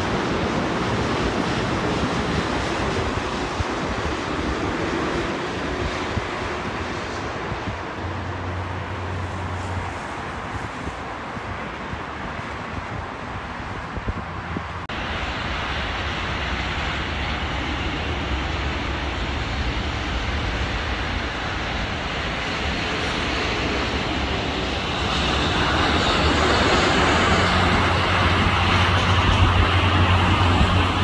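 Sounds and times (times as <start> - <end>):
jet engines of landing airliner: 0.0 - 31.0
road traffic noise: 0.0 - 31.0.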